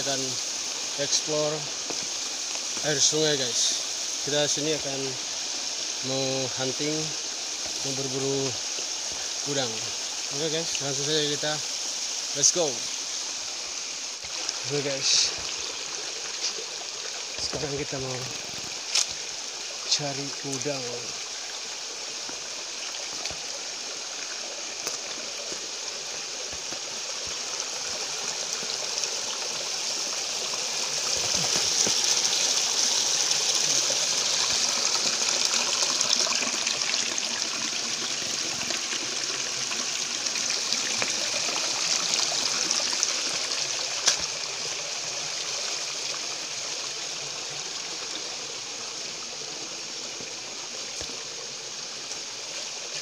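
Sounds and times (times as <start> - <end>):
river water trickling over stones: 0.0 - 53.0.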